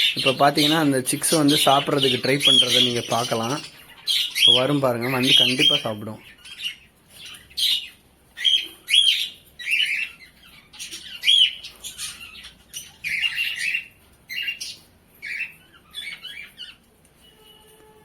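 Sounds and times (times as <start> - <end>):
cage birds chirping and squawking: 0.0 - 17.8.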